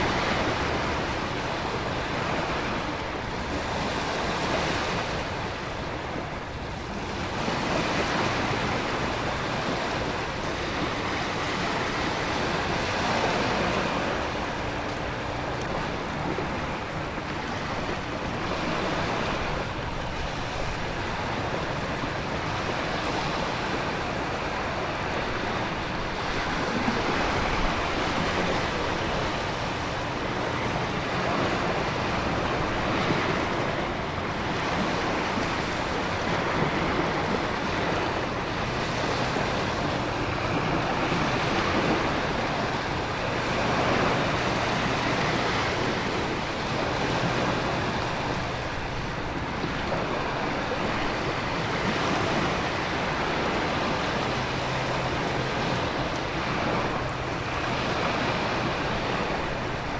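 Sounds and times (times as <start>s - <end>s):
ocean surf breaking: 0.0s - 59.9s
wind: 0.0s - 59.9s.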